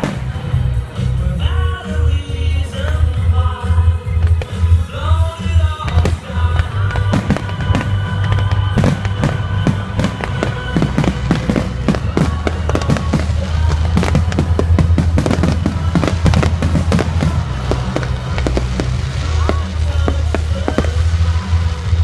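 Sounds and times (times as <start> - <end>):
fireworks bursting and crackling: 0.0 - 22.0
music: 0.0 - 22.0.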